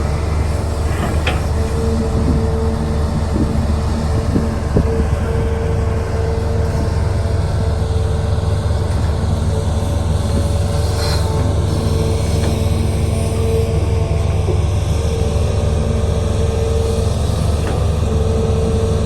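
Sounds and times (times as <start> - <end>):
diesel engine running with whine: 0.0 - 19.0.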